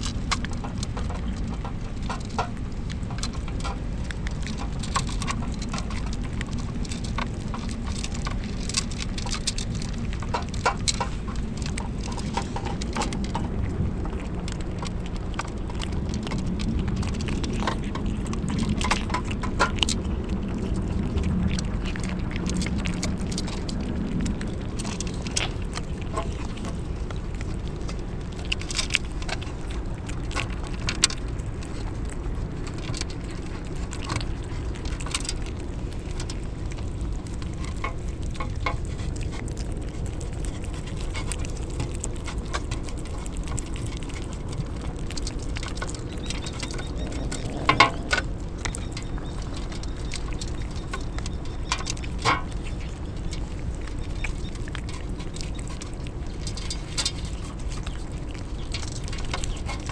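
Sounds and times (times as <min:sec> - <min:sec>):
rain patter: 0:00.0 - 0:59.9.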